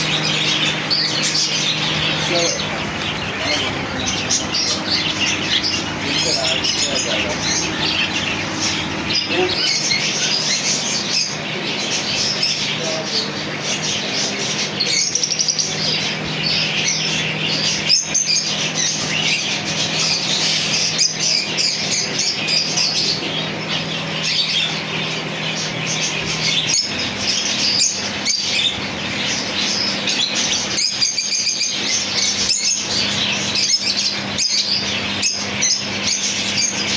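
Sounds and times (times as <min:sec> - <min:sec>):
caged birds chirping and squawking: 0:00.0 - 0:36.9
steady low hum: 0:00.0 - 0:36.9.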